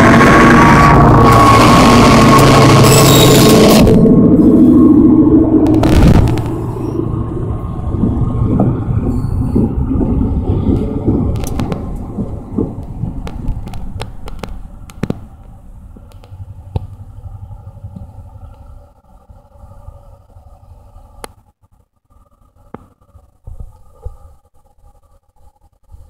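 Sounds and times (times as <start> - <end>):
train rumbling past: 0.0 - 21.5
wheels clicking on rails: 0.0 - 26.0.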